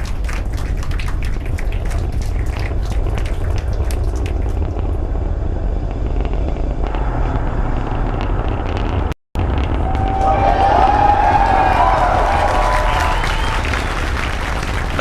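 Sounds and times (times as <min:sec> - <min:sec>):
rocket engines rumbling and crackling: 0:00.0 - 0:15.0.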